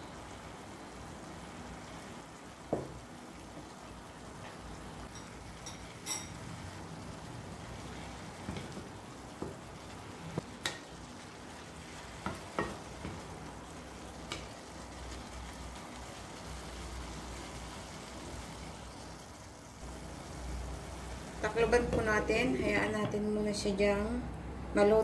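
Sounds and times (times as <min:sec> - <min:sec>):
meat sizzling in a frying pan: 0:00.0 - 0:22.5.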